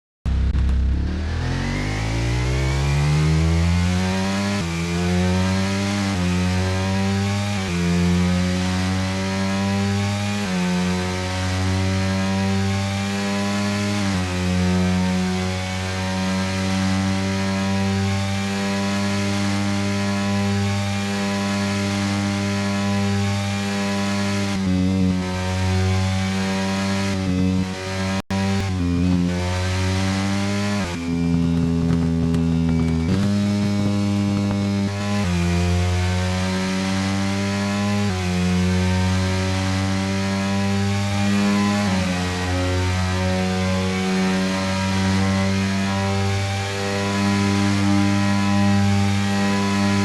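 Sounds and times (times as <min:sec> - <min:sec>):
motorcycle engine howling at high revs: 0:00.3 - 0:50.0.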